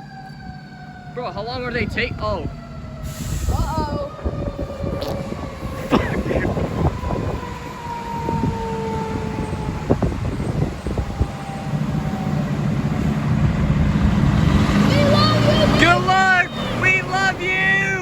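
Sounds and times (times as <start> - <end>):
fire truck engine rumble: 0.0 - 18.0
fire truck siren: 0.0 - 18.0.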